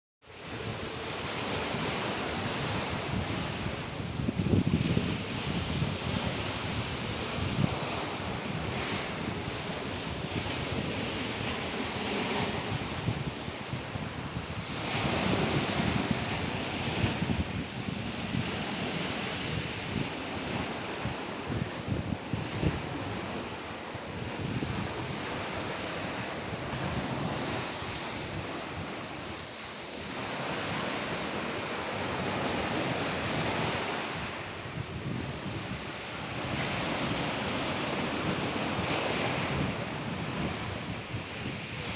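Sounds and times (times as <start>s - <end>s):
surf washing onto shore: 0.3s - 41.9s.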